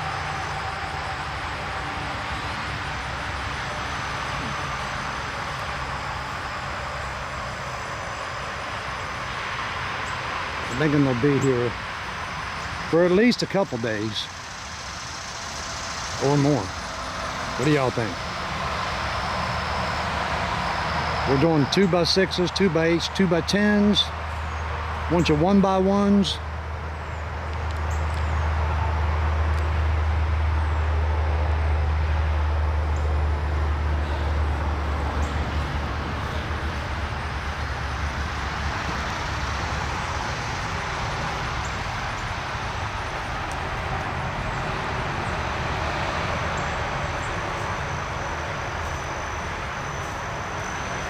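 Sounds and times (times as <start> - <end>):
constant hiss: 0.0 - 51.0
deep low vehicle rumble: 0.0 - 51.0.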